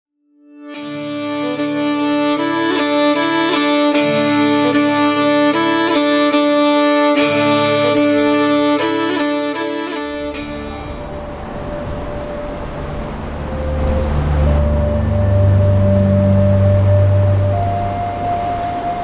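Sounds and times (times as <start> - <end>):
violin background music: 0.4 - 19.0
river water rushing: 0.9 - 19.0.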